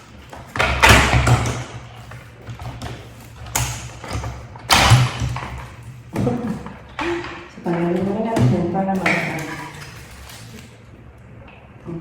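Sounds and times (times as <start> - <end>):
vacuum parts knocking and rustling: 0.0 - 10.6.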